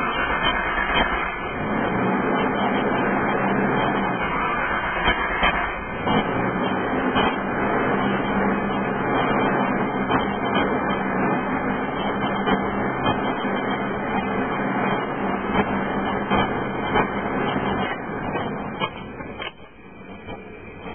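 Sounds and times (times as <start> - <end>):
cooling fans running fast: 0.0 - 20.9
engine cranking whir: 0.0 - 20.9.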